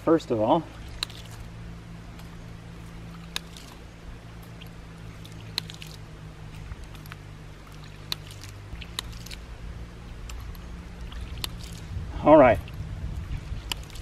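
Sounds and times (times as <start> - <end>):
water rushing through pipe: 0.7 - 14.0.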